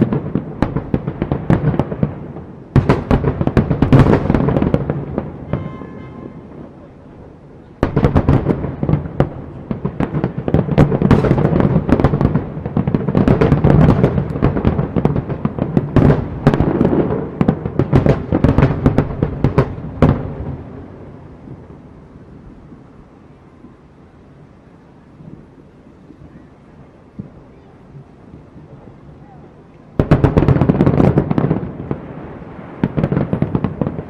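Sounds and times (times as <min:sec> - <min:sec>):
fireworks bursts and crackling: 0:00.0 - 0:34.0.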